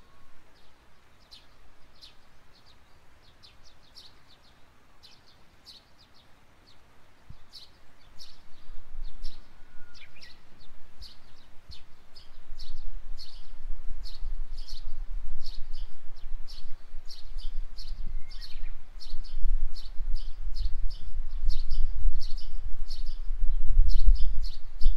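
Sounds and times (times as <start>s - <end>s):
songbirds chirping: 0.0s - 24.9s.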